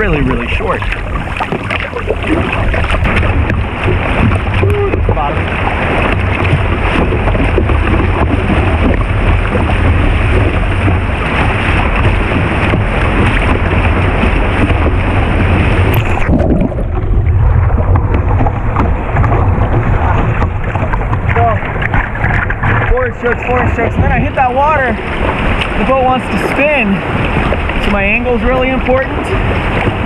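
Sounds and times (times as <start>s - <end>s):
rushing whitewater: 0.0s - 30.0s
wind buffeting microphone: 0.0s - 30.0s.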